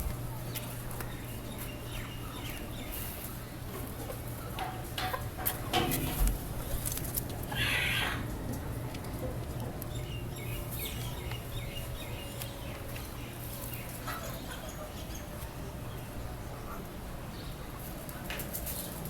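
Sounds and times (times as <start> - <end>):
chickens chirping softly: 0.0 - 19.0.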